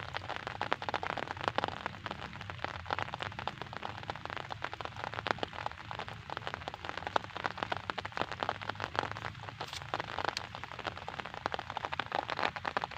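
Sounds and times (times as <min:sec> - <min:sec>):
rain pattering on a surface: 0:00.0 - 0:12.9.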